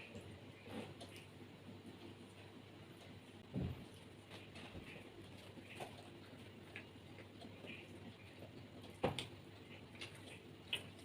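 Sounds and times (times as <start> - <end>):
quiet eating sounds: 0.0 - 11.0.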